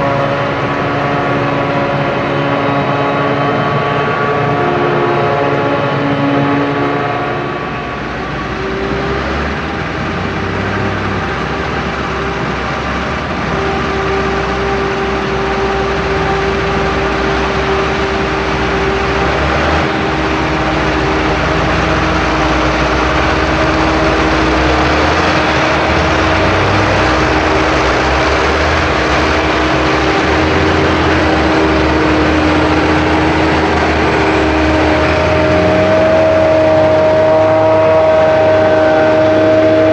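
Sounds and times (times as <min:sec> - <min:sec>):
diesel farm machinery running: 0:00.0 - 0:39.9
held tones shifting in pitch: 0:00.0 - 0:39.9.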